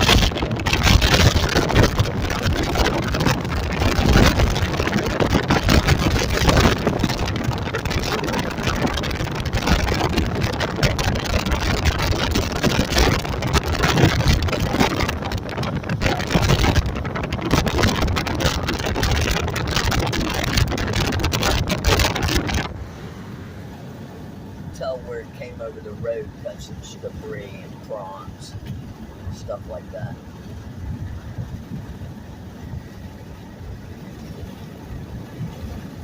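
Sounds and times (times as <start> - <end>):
car road noise: 0.0 - 36.0
wind buffeting microphone: 0.0 - 36.0.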